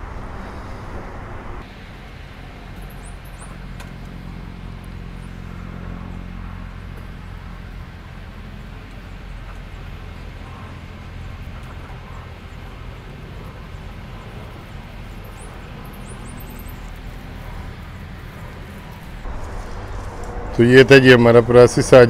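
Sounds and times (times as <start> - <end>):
low rumble: 0.0 - 2.8, 4.4 - 22.0
steady hum: 0.0 - 22.0.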